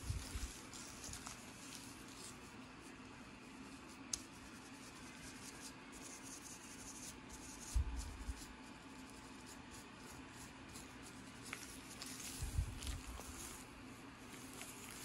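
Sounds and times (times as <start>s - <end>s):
comb scratching on scalp: 0.0s - 15.0s.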